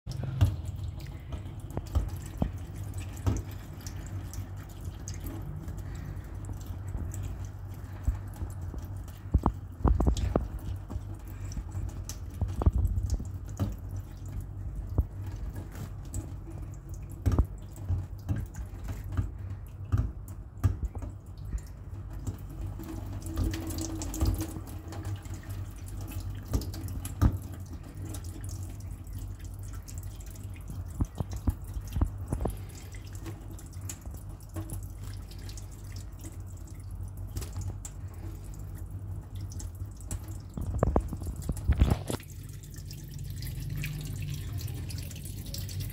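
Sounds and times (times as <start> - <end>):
tap water running into a sink: 0.1 - 45.9
water splashing and dripping: 0.1 - 45.9.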